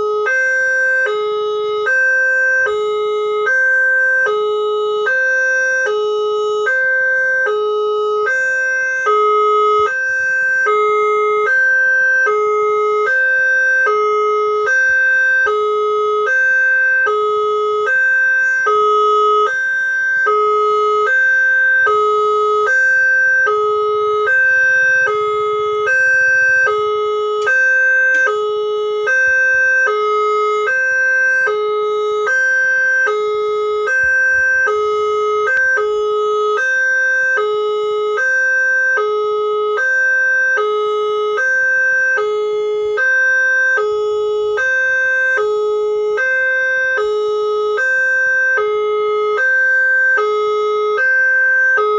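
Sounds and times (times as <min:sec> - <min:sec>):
two-tone level crossing siren: 0:00.0 - 0:51.9.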